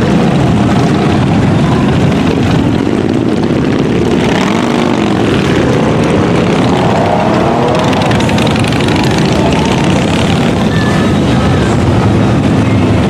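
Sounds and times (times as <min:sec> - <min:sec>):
motorcycle engine revving: 0:00.0 - 0:13.0
motorcycle engines droning: 0:00.0 - 0:13.0.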